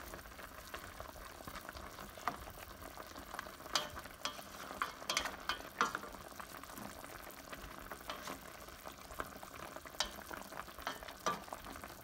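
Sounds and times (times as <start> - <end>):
sauce bubbling and sizzling in a pan: 0.0 - 12.0.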